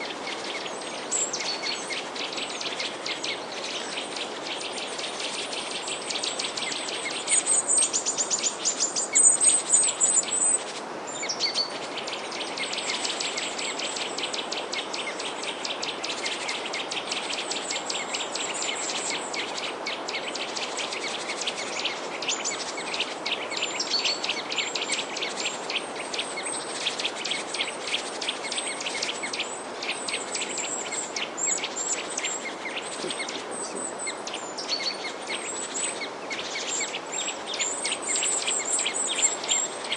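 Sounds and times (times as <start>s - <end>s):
small birds chirping: 0.0s - 39.9s
steady background hiss: 0.0s - 39.9s.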